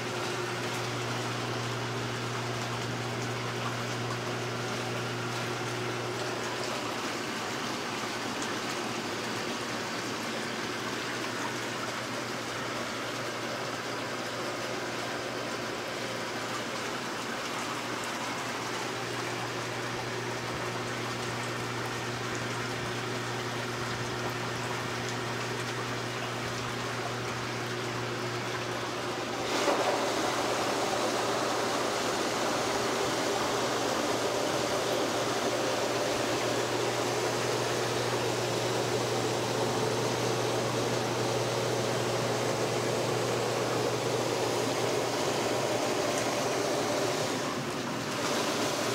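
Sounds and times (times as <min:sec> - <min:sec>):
hot tub water rushing: 0:00.0 - 0:48.9
low pump hum: 0:00.0 - 0:48.9.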